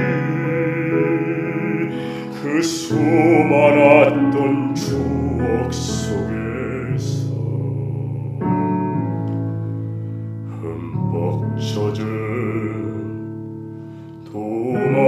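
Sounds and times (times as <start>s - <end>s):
man singing a sad ballad: 0.0s - 9.6s, 10.4s - 15.0s
piano accompaniment: 0.0s - 15.0s.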